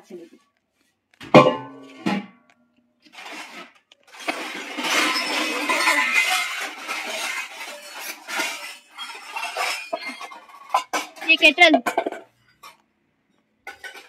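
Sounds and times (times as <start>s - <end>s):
steel pots and bowls clattering: 1.2s - 2.4s, 3.1s - 12.9s, 13.6s - 14.0s.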